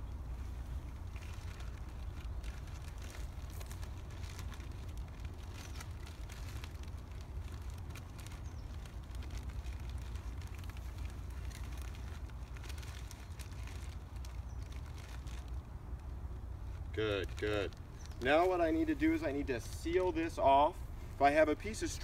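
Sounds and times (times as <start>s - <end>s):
plastic bag crinkling: 0.8s - 19.2s.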